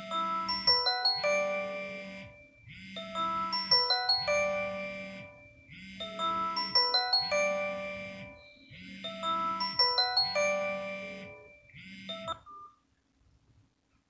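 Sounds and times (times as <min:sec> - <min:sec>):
phone ringtone melody: 0:00.0 - 0:12.7.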